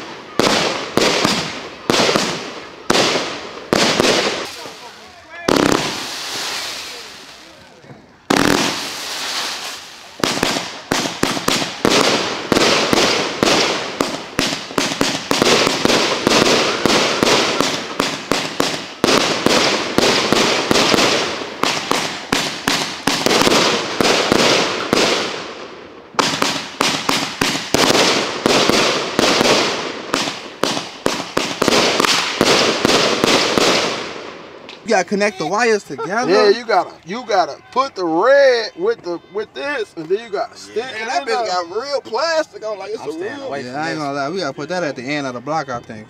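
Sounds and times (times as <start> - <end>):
fireworks bangs: 0.0 - 45.8.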